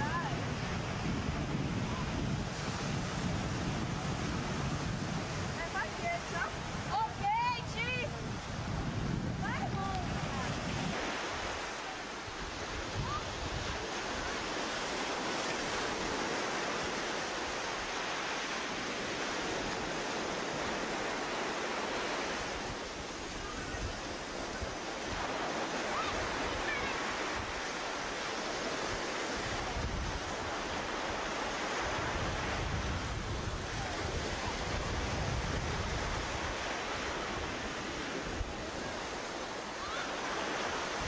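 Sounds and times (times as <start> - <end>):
ocean surf breaking on beach: 0.0 - 41.0.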